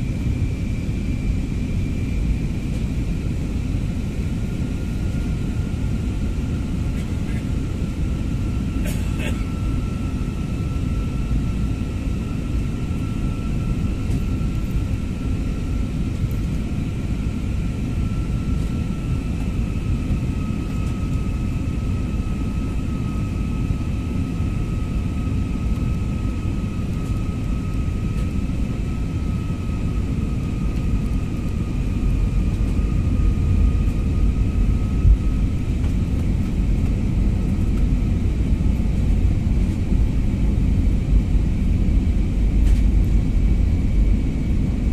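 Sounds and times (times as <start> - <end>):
engine and airflow rumble: 0.0 - 44.9
faint steady whine: 0.0 - 44.9.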